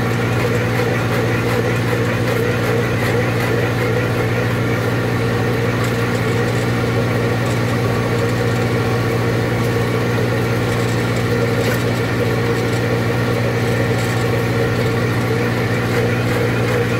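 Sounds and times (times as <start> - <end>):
carrot topping machine running: 0.0 - 16.9
tractor engine low hum: 0.0 - 16.9.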